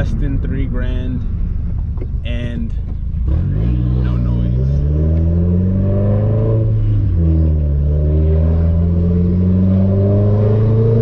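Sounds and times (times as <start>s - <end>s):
car exhaust accelerating: 0.0s - 11.0s.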